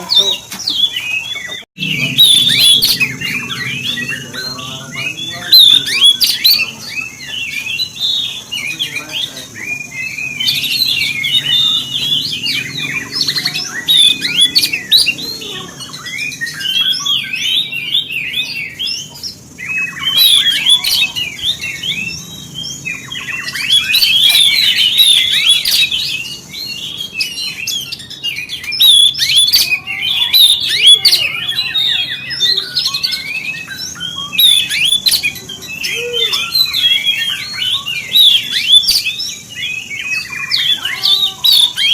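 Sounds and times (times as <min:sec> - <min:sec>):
songbird singing whistles and chirps: 0:00.0 - 0:41.9.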